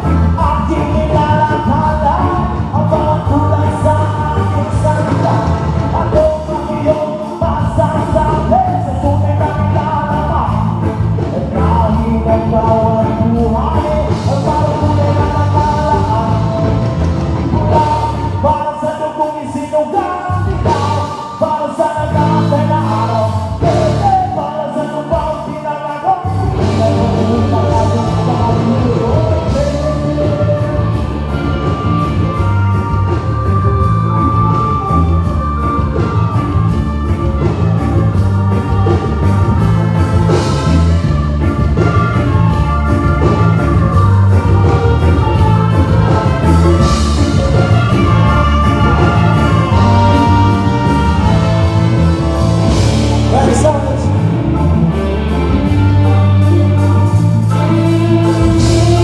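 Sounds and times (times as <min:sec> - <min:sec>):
lead singer singing: 0:00.0 - 0:59.0
live rock band playing: 0:00.0 - 0:59.0.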